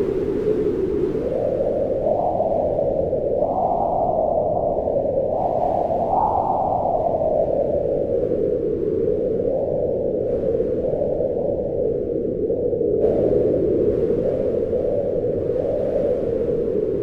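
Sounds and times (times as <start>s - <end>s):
howling wind: 0.0s - 17.0s.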